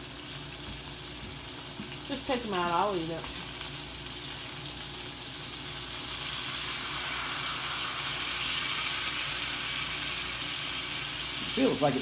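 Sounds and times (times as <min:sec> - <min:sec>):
steaks sizzling in a skillet: 0:00.0 - 0:12.0.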